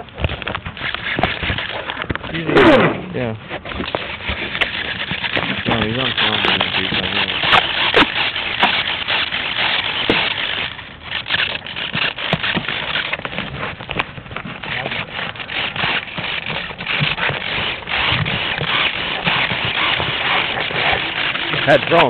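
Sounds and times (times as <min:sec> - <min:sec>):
handling knocks and scrapes: 0:00.0 - 0:22.0.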